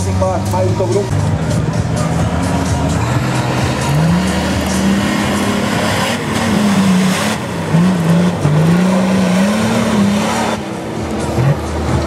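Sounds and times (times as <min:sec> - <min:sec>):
engine running under load: 0:00.0 - 0:12.0.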